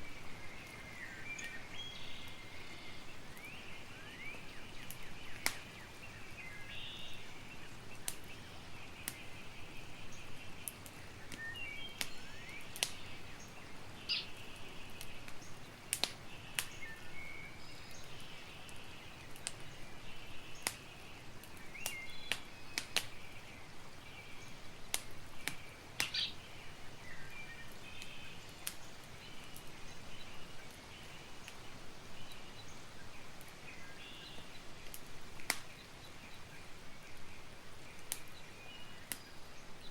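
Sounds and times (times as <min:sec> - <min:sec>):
birds chirping: 0:00.0 - 0:39.9
campfire crackling and popping: 0:00.0 - 0:39.9.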